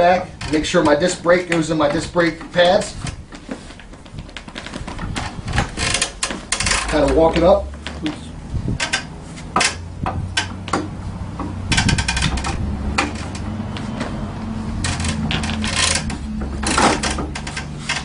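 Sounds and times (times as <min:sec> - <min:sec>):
metal clicks and rattles: 0:00.0 - 0:03.2, 0:03.8 - 0:08.1, 0:08.7 - 0:13.6, 0:14.8 - 0:18.0.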